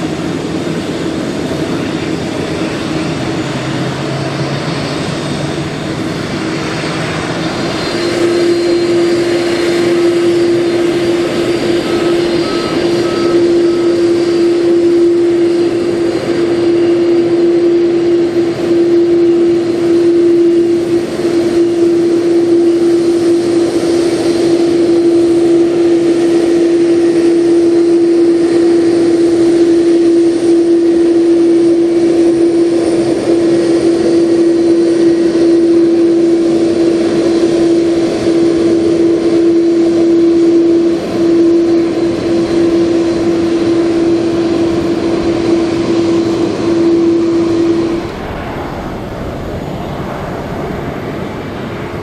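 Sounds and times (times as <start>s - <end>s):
jet engine whine: 0.0s - 52.0s
jet engines taxiing: 0.0s - 52.0s.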